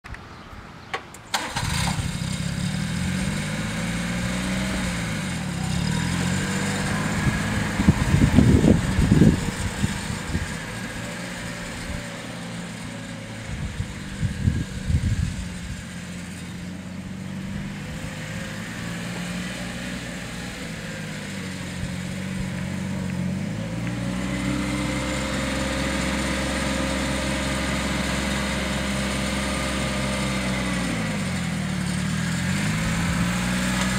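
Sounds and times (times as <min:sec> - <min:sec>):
utility vehicle engine: 0:00.1 - 0:33.9
loud rumbles: 0:01.6 - 0:33.7.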